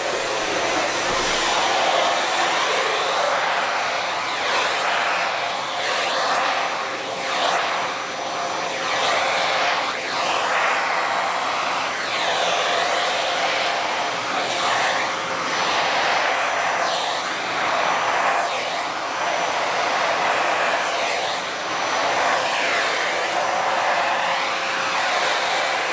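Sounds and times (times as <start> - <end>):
vacuum cleaner whining: 0.0 - 25.9.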